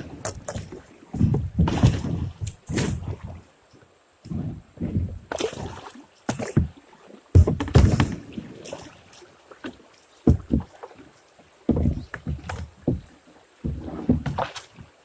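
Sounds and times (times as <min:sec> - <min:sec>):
paddle splashing through water: 0:00.0 - 0:15.0.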